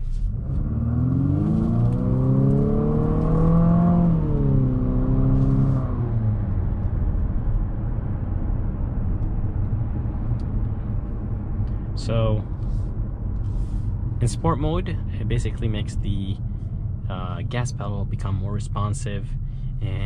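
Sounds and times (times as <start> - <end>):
car engine accelerating: 0.0 - 20.0
road rumble: 0.0 - 20.0.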